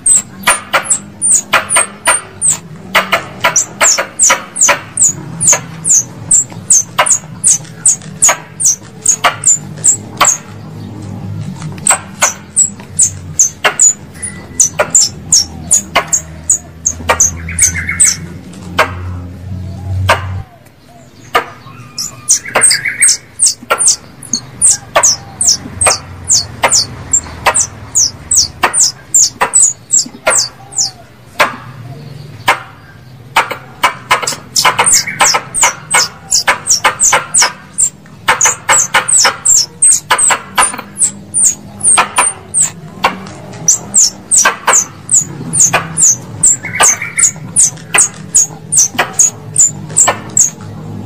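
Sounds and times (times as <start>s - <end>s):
squirrel chirps: 0.0s - 10.7s, 11.7s - 18.9s, 20.2s - 31.1s, 32.4s - 50.7s.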